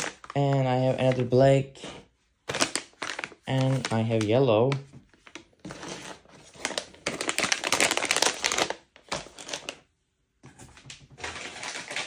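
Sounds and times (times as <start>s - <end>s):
plastic foil pouches crinkling: 0.0s - 9.8s, 11.2s - 12.0s.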